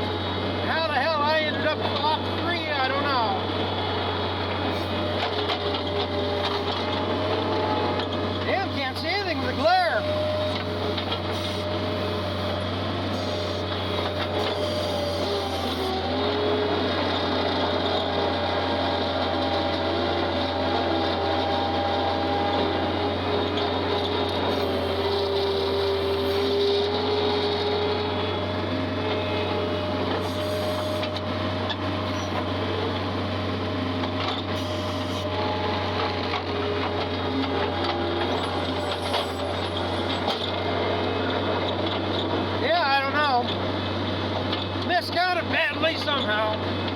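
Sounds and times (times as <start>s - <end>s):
tractor engine humming: 0.0s - 46.9s.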